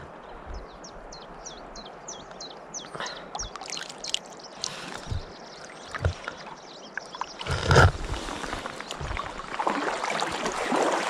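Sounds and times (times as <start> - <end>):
river water trickling over stones: 1.0 - 11.0.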